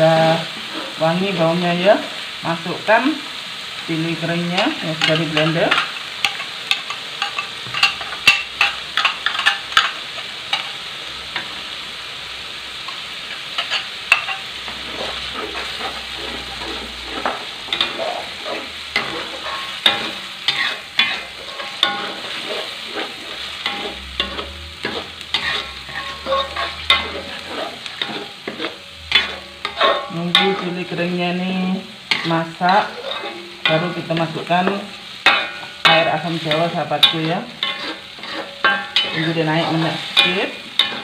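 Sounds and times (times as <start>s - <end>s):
paste sizzling in oil: 0.0s - 41.0s
metal spatula scraping a wok: 4.6s - 10.8s, 12.9s - 41.0s.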